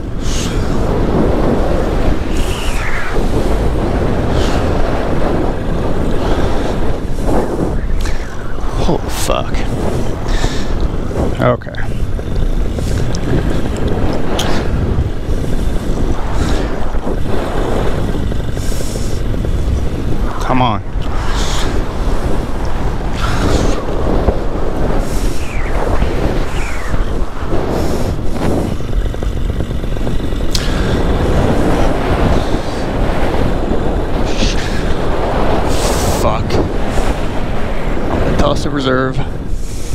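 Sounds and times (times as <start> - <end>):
paramotor engine running: 0.0 - 39.9
wind buffeting the microphone: 0.0 - 39.9.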